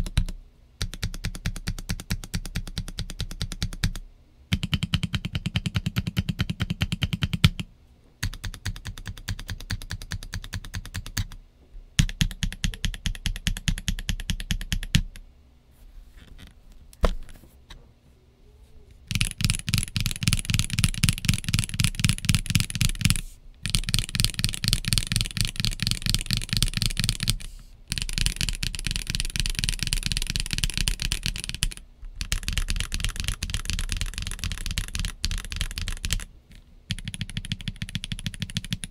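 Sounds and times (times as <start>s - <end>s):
mechanical keyboard typing: 0.0s - 11.4s, 12.0s - 15.2s, 19.1s - 36.3s, 36.9s - 38.9s.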